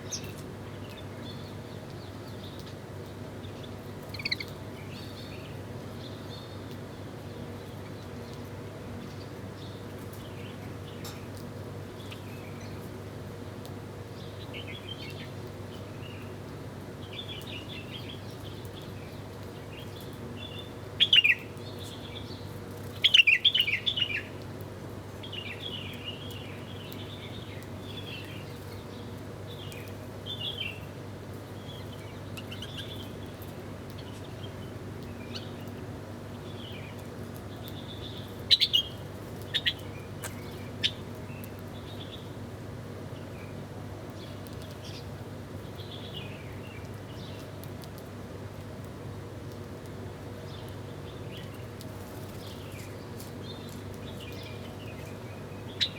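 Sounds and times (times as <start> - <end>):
small birds chirping: 0.0 - 16.4, 17.0 - 24.4, 25.0 - 42.5, 43.1 - 47.9, 50.2 - 55.9
low background hum: 0.0 - 55.9.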